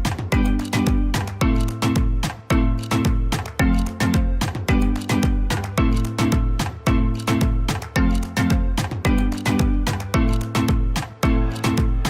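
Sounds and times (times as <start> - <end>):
upbeat music with bass line: 0.0 - 12.0.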